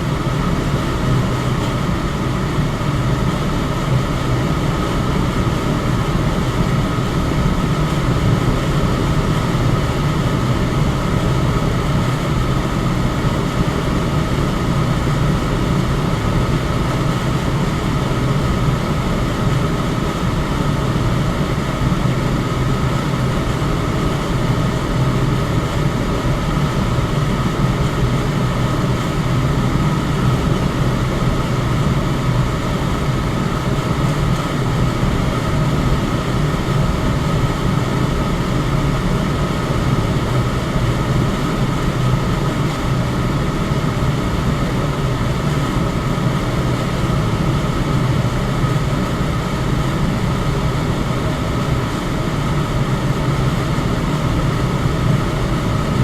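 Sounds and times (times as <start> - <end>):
electric fan rushing air: 0.0 - 56.0
low fan hum: 0.0 - 56.0.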